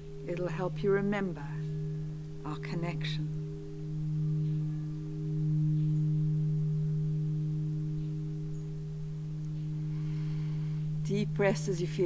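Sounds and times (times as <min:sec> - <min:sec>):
singing bowl ringing: 0:00.0 - 0:12.0.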